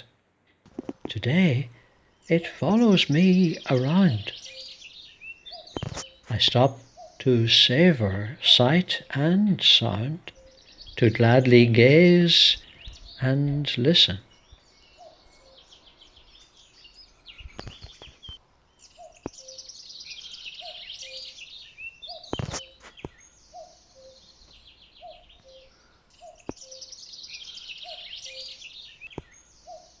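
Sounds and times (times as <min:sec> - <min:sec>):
songbirds trilling: 0:00.0 - 0:30.0
cuckoo calling: 0:00.7 - 0:14.3, 0:18.9 - 0:30.0.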